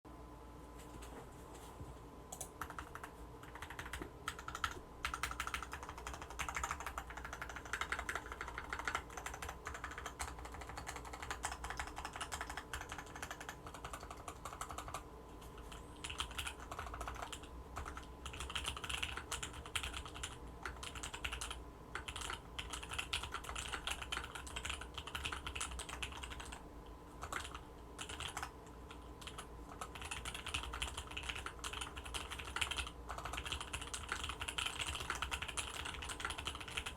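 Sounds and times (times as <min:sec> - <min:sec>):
mechanical keyboard typing: 0:02.3 - 0:26.6, 0:27.2 - 0:36.9.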